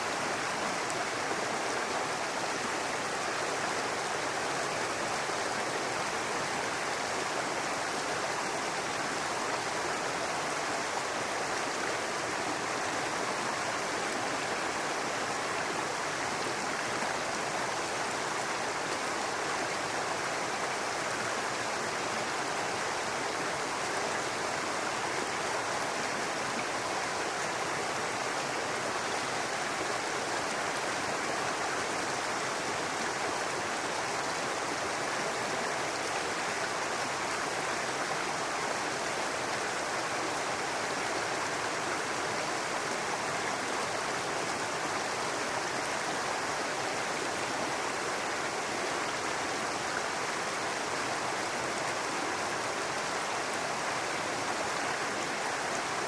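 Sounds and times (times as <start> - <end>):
brook babbling over rocks: 0.0 - 56.0.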